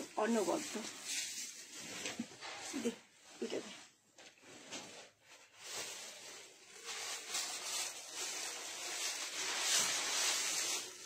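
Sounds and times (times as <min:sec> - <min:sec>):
fabric rustling and swishing: 0:00.0 - 0:11.0.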